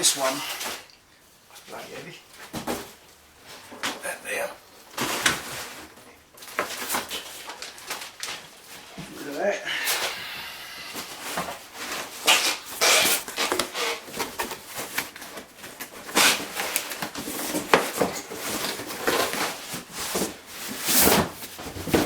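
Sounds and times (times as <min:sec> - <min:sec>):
cardboard rustling and scraping: 0:02.3 - 0:09.5, 0:10.4 - 0:22.0.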